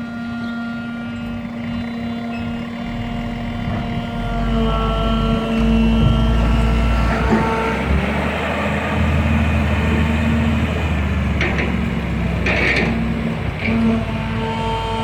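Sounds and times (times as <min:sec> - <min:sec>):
diesel engine rumbling: 0:01.0 - 0:15.0.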